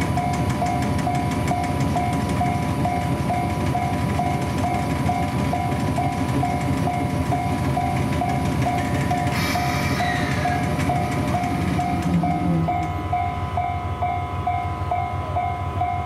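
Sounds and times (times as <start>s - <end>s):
level crossing warning bell: 0.0s - 16.0s
train rumbling: 0.0s - 16.0s.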